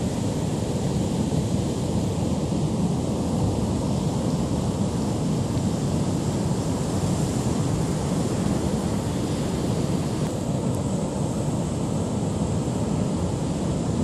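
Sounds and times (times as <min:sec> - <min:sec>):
storm surf breaking on rocks: 0:00.0 - 0:14.0.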